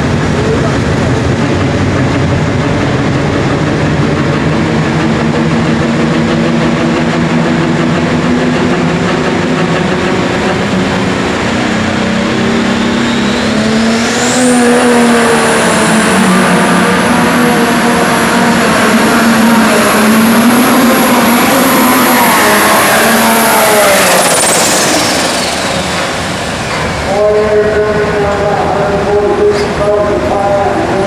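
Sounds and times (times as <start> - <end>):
diesel engine running hard: 0.0 - 31.0
turbocharger whine: 0.0 - 31.0.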